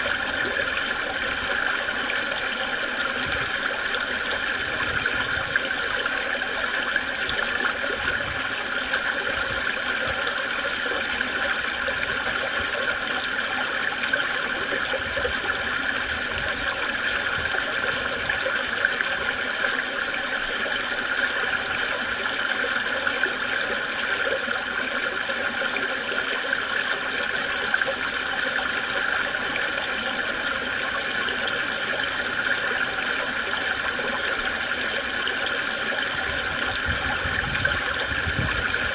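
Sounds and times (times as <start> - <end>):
creek babbling: 0.0 - 38.9.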